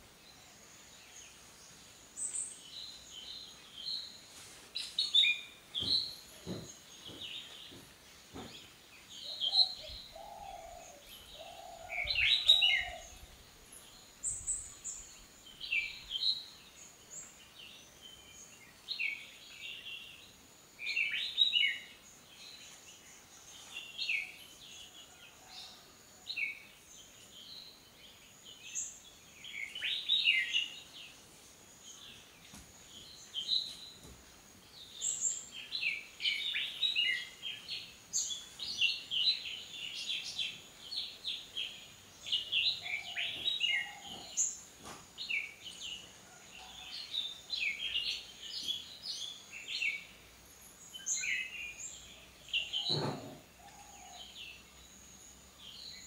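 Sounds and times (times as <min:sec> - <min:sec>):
wild birds chirping: 0:00.0 - 0:56.0.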